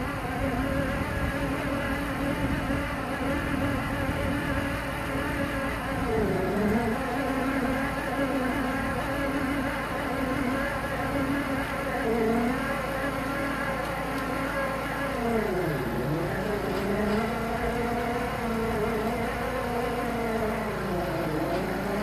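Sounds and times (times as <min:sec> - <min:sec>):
diesel engine running hard: 0:00.0 - 0:22.0.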